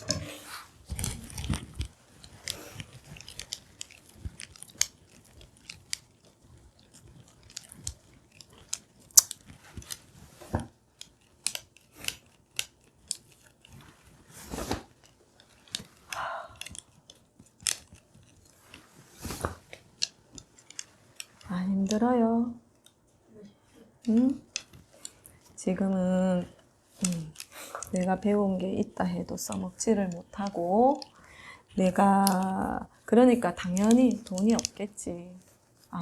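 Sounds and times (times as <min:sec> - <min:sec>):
small clicks and taps: 0:00.0 - 0:36.0.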